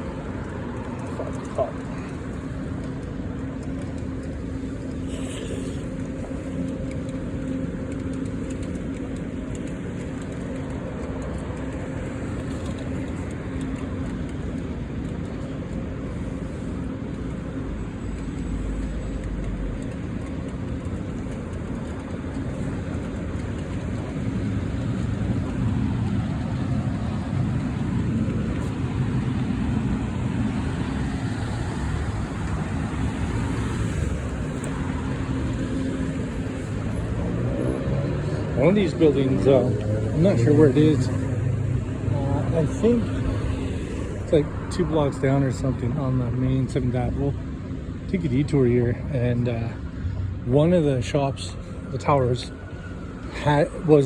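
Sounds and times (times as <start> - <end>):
city street traffic hum: 0.0 - 54.0.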